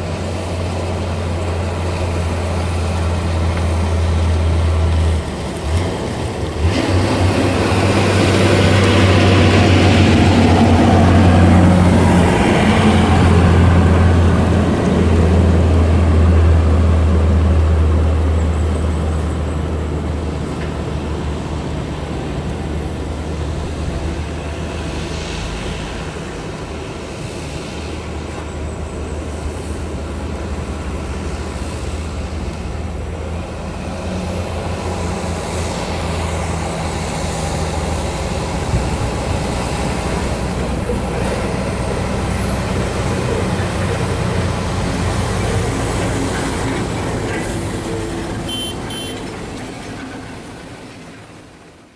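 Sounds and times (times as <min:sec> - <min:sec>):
road noise: 0:00.0 - 0:51.9
truck engine drone: 0:00.0 - 0:51.9.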